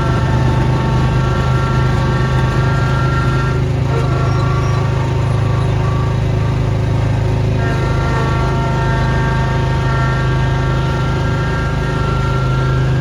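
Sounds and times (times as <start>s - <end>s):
high whine: 0.0s - 13.0s
snowblower engine running: 0.0s - 13.0s.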